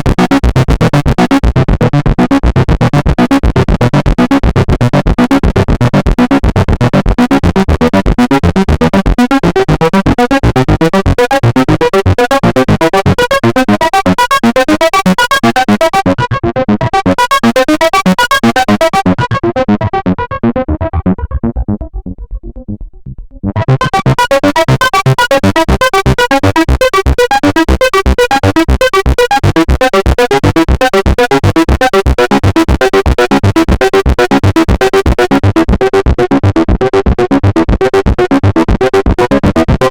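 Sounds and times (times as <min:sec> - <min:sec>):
synthesizer sequenced pattern: 0:00.0 - 0:39.9.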